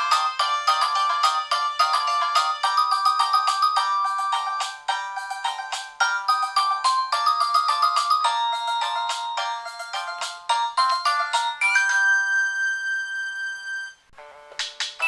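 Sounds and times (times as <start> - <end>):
polyphonic ringtone: 0.0 - 14.3.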